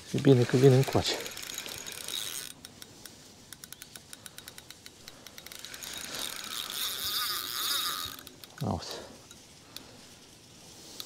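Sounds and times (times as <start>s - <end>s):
fishing reel clicking: 0.2s - 11.0s.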